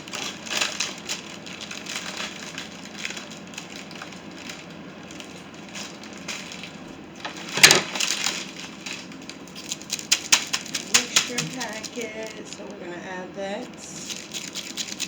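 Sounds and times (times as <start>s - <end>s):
plastic sleeve crinkling: 0.0s - 15.0s.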